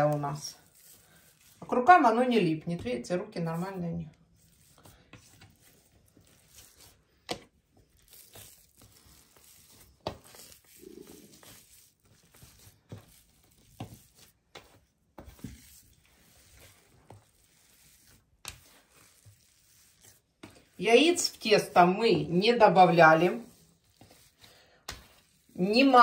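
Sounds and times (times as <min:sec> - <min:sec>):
hands kneading dough: 0:00.0 - 0:26.0.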